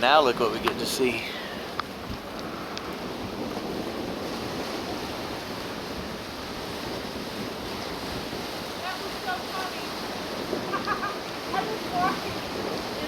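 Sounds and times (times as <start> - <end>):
waves breaking on a shore: 0.0 - 13.0.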